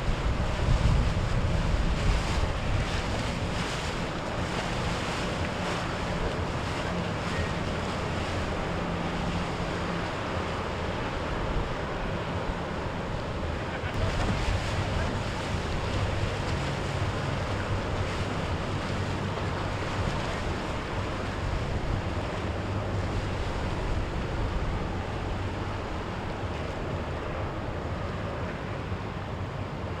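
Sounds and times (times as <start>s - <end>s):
wind buffeting microphone: 0.0s - 29.4s
low steady rumble: 0.0s - 30.0s
waves washing and breaking: 0.0s - 30.0s.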